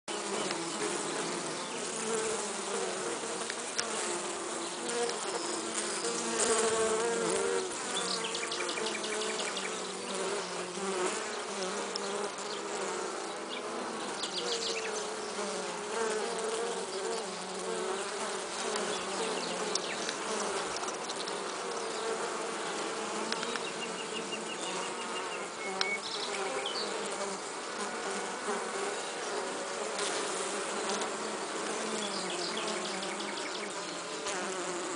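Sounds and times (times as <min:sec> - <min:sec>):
bees buzzing: 0:00.1 - 0:34.9.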